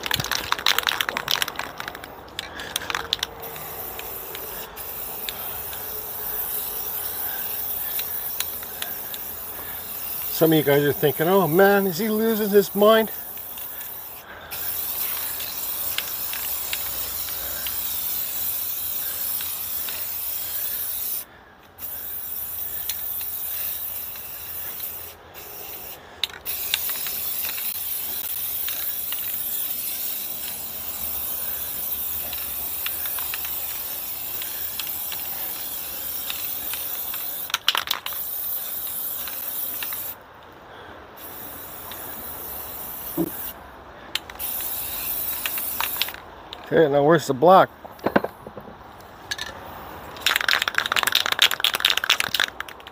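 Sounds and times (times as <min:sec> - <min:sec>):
spray paint can hissing: 0:00.0 - 0:40.2, 0:41.2 - 0:43.6, 0:44.2 - 0:46.2, 0:49.3 - 0:52.9.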